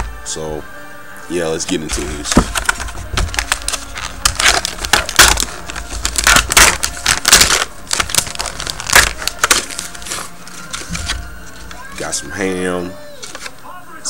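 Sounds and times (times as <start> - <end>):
plastic wrapper crackling: 1.6 - 13.7.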